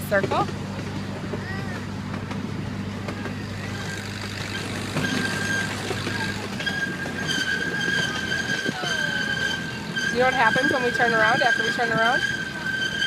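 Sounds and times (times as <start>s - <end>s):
miniature train hum and rattle: 0.0s - 13.0s
wheels squealing: 0.0s - 13.0s.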